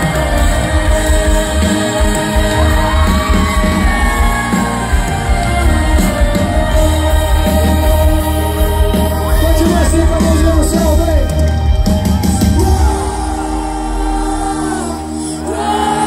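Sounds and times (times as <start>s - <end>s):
heavy booming bass: 0.0s - 14.8s
live band with singer: 0.0s - 16.0s.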